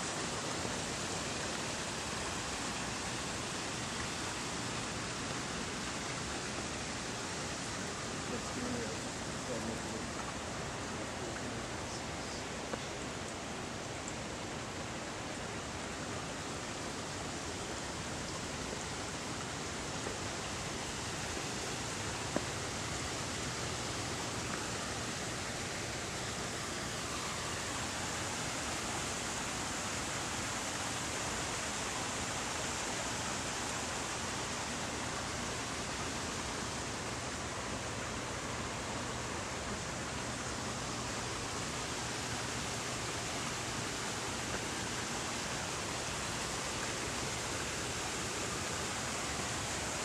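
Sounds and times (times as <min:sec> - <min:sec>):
stream and waterfall rushing: 0:00.0 - 0:50.0.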